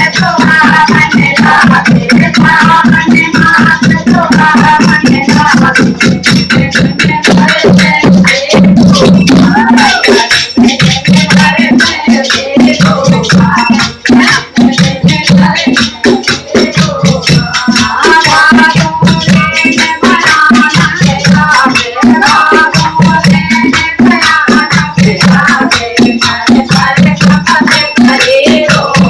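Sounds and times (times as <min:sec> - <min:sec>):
loud music with fast percussion: 0:00.0 - 0:29.0.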